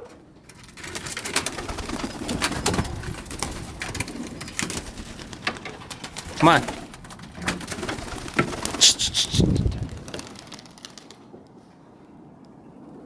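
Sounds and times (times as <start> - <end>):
pigeons cooing: 0.0 - 10.5.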